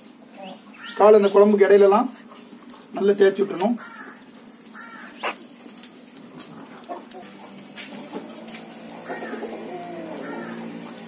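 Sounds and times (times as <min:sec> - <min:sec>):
birds calling: 0:00.3 - 0:01.6, 0:02.3 - 0:11.0.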